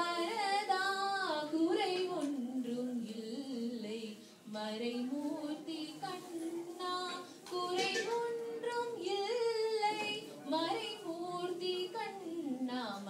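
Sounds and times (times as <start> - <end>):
woman and girls singing: 0.0 - 13.0.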